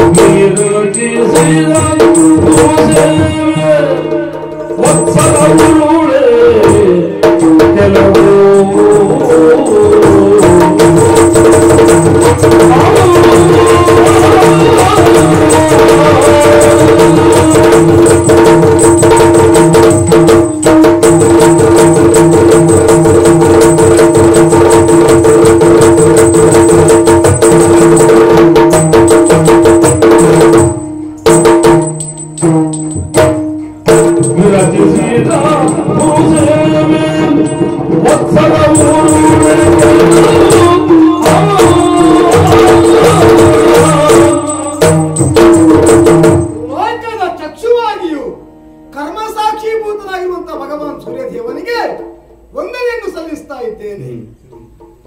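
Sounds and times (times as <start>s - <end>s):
fast hand drumming: 0.0s - 47.0s.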